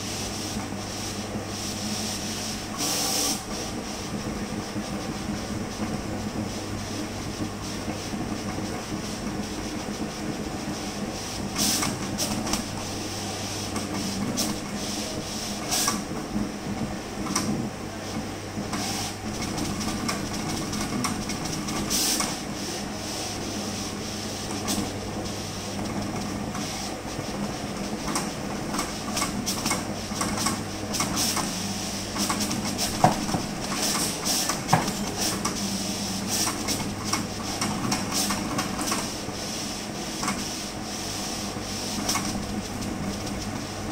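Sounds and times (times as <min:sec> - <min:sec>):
printing machine motor hum: 0:00.0 - 0:43.9.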